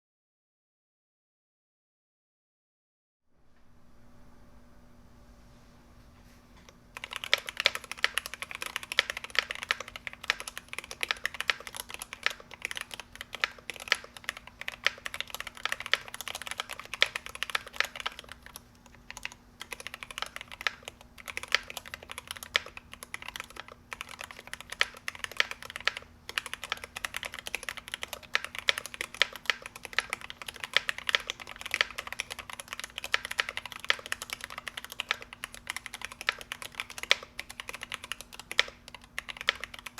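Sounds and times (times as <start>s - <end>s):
mechanical keyboard typing: 7.0s - 39.9s.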